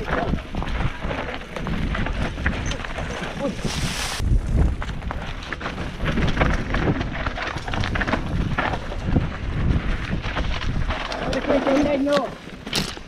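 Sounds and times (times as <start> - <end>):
wind buffeting microphone: 0.0 - 12.4
bike tyres and frame rattling: 0.0 - 13.0.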